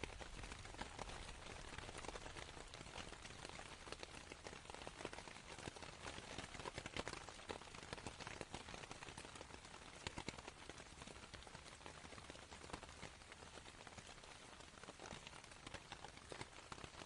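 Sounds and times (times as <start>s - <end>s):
rain falling on canvas: 0.0s - 17.0s.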